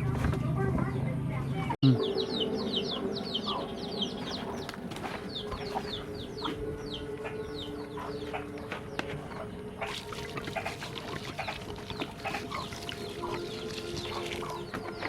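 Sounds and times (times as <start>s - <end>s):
chickens clucking: 0.6s - 15.0s
chicks peeping: 0.8s - 15.0s.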